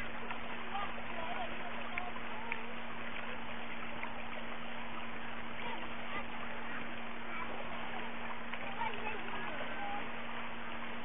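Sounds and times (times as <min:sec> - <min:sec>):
low hum: 0:00.0 - 0:11.0
river flowing over stones: 0:00.0 - 0:11.0.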